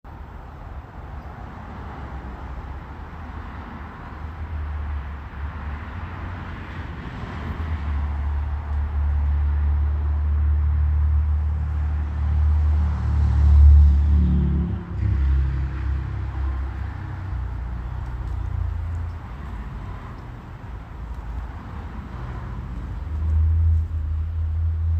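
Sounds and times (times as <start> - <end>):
car passing by: 1.2 - 24.9.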